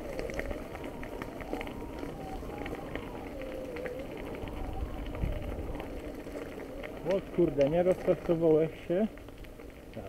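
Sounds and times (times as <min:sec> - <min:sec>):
wind on microphone: 0:00.0 - 0:08.5
tyres rumbling: 0:00.0 - 0:10.0.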